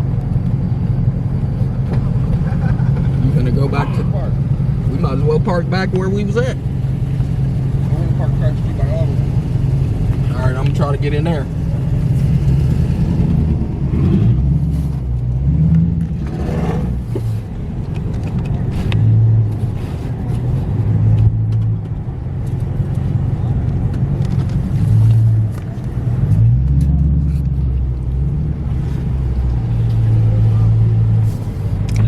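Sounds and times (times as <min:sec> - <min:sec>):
car engine at low revs: 0:00.0 - 0:32.0.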